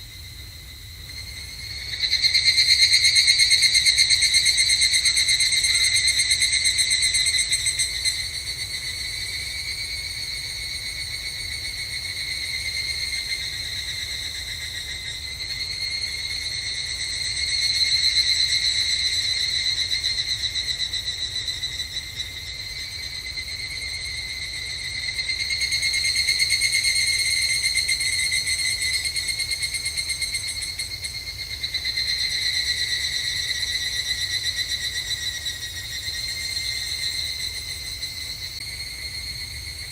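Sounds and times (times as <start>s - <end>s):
cicadas trilling: 0.0s - 39.9s.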